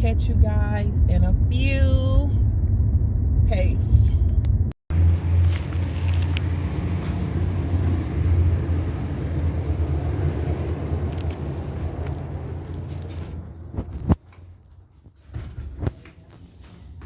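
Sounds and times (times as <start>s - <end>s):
car engine running: 0.0s - 14.2s
road rumble: 0.0s - 17.0s.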